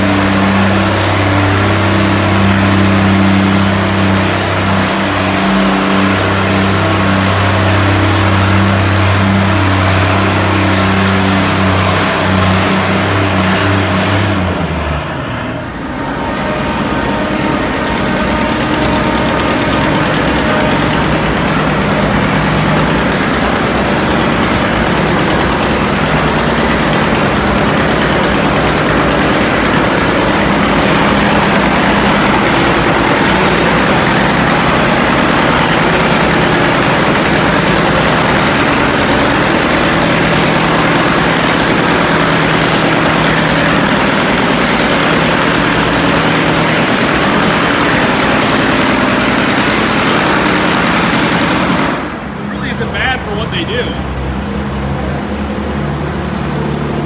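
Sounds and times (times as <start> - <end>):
tractor engine at high revs: 0.0 - 57.0.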